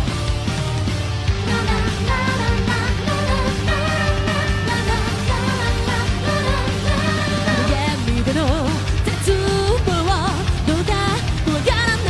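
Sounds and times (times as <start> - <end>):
rock band backing track: 0.0 - 12.0.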